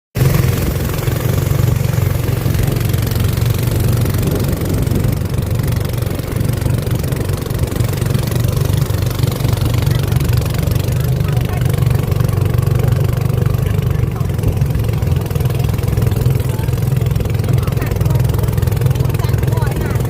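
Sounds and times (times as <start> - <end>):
boat engine running: 0.1 - 20.0.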